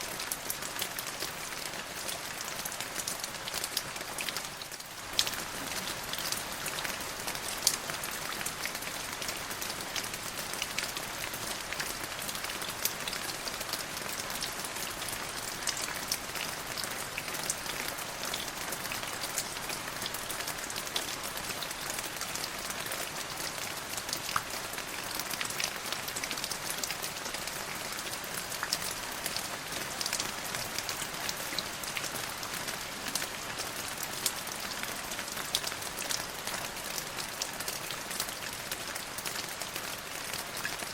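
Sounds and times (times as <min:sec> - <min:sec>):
rain on a hard surface: 0:00.0 - 0:40.9.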